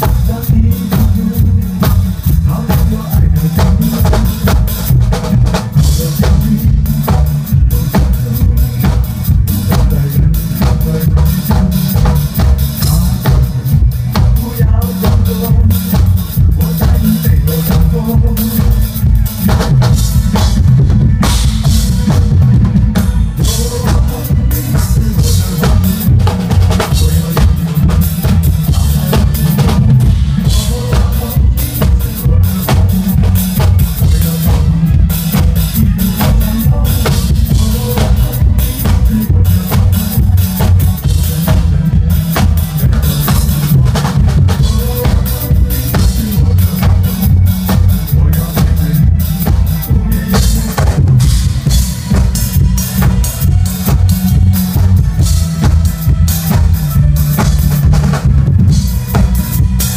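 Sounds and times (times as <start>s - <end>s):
drum kit playing: 0.0s - 59.9s
recorded pop song: 0.0s - 59.9s.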